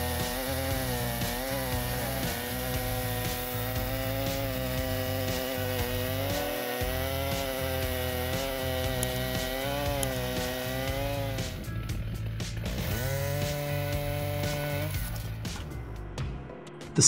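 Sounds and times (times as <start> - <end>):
chainsaw cutting log: 0.0 - 15.7.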